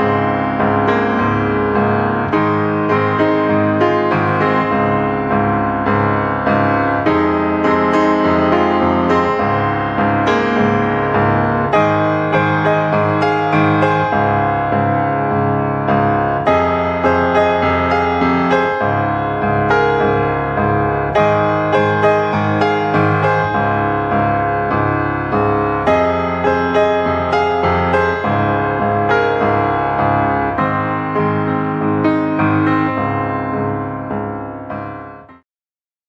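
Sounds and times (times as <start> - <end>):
piano music: 0.0 - 35.4.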